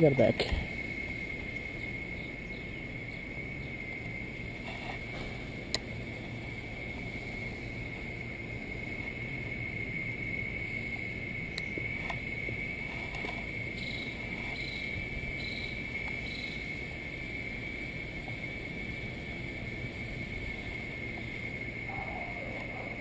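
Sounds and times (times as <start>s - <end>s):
high-pitched insect drone: 0.0s - 23.0s.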